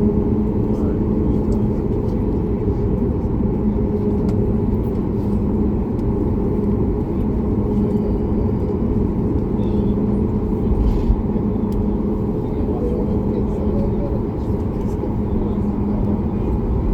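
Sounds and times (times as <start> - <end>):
jet engines rumbling in cabin: 0.0 - 16.9.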